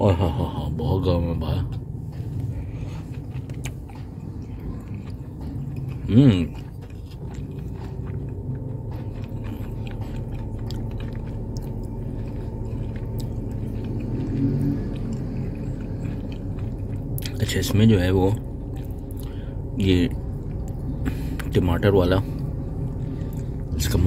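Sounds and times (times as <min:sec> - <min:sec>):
steady low hum: 0:00.0 - 0:24.0
person chewing food: 0:01.6 - 0:24.0.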